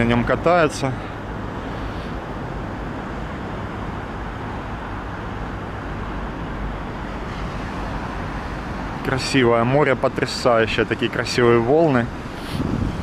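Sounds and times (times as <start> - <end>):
wind: 0.0 - 13.0
sea waves breaking: 0.5 - 13.0.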